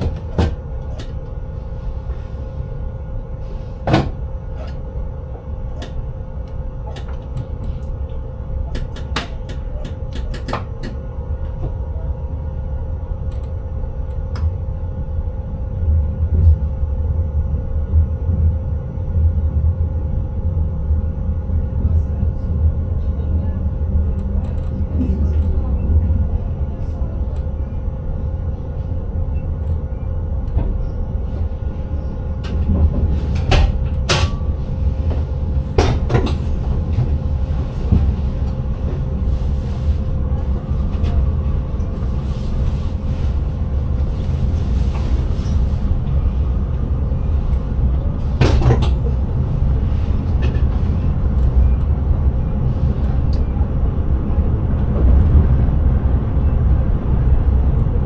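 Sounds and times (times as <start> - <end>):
train rumble in cab: 0.0 - 58.0.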